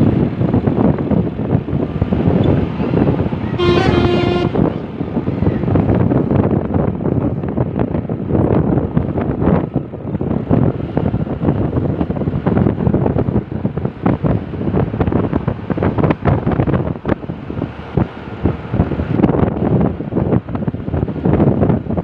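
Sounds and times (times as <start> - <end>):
roadside vehicle noise: 0.0 - 22.0
wind buffeting microphone: 0.0 - 22.0.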